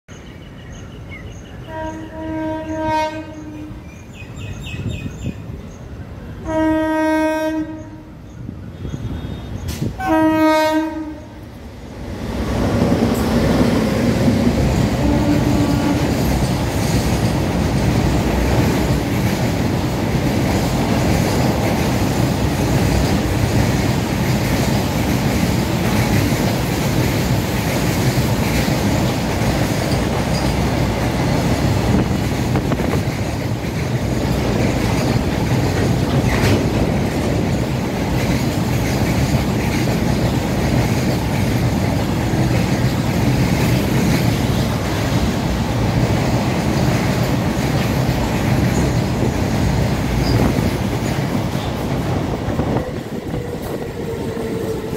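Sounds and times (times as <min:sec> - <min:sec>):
freight train wheels rumbling: 0:00.1 - 0:54.9.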